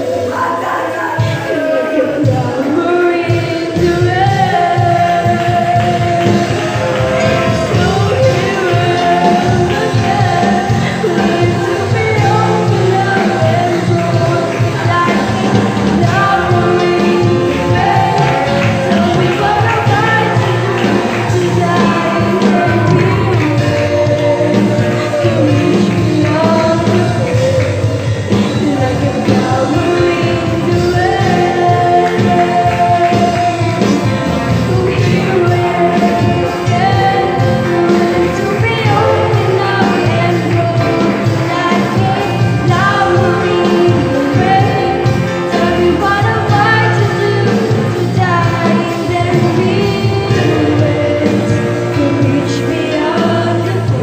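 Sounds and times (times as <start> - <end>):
amplified band accompaniment: 0.0 - 54.0
youth choir singing gospel: 0.0 - 54.0.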